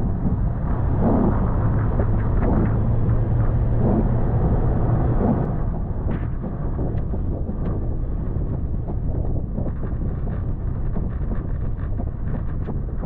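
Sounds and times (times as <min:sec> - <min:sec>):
vehicle engine rumbling at low speed: 0:00.0 - 0:13.0.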